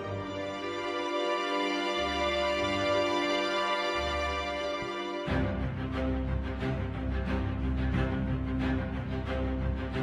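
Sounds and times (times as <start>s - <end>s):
background music chords: 0.0s - 10.0s.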